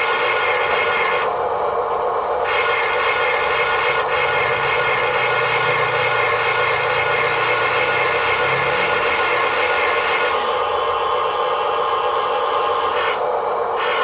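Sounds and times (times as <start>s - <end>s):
small electric motor whining: 0.0s - 1.4s, 2.4s - 14.0s.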